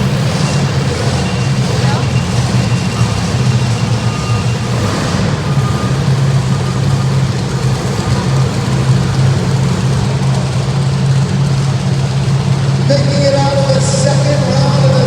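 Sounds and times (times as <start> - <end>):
monster truck engine idling: 0.0 - 15.0.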